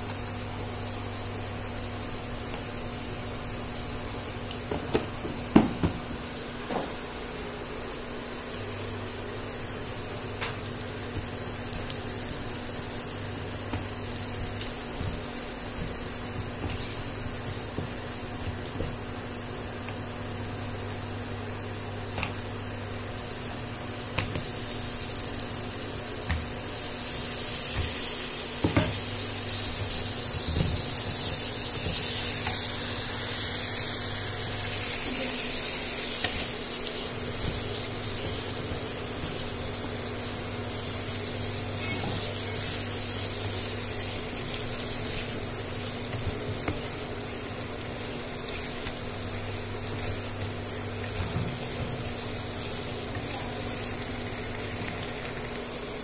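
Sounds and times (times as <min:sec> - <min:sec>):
fish sizzling in hot oil: 0:08.5 - 0:56.0.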